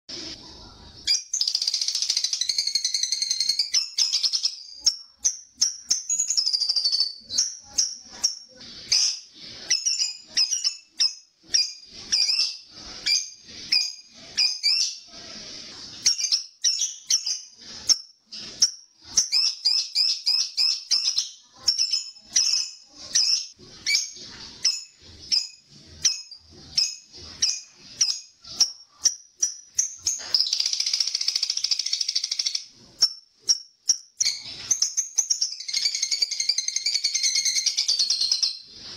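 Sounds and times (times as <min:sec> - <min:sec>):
high-pitched bird calls: 0:01.0 - 0:15.1, 0:15.9 - 0:38.7
lovebird chattering: 0:01.0 - 0:15.1, 0:16.0 - 0:38.6.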